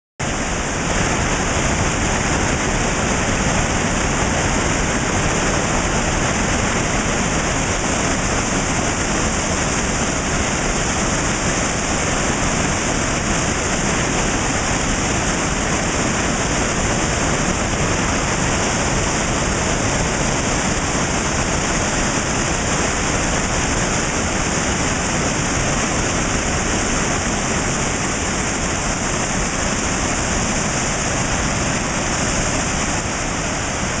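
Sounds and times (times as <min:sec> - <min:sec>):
waterfall rushing over rocks: 0:00.2 - 0:34.0.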